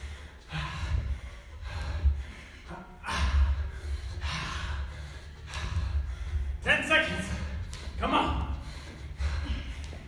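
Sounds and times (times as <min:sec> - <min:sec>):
man breathing hard: 0:00.0 - 0:10.0.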